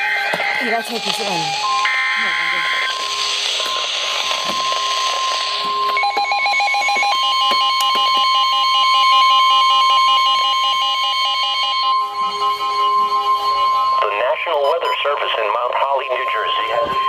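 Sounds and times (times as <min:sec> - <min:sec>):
fast-pulsing electronic alarm beeps: 0:00.0 - 0:15.4
steady emergency alert tone: 0:00.0 - 0:17.0.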